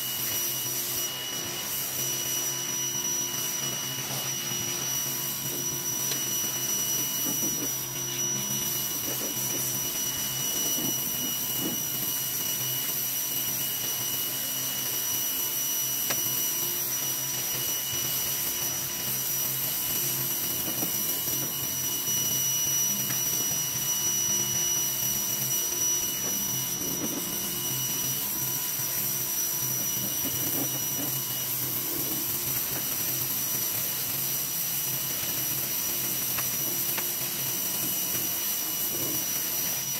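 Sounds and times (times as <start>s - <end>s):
pressure washer motor whining: 0.0s - 39.9s.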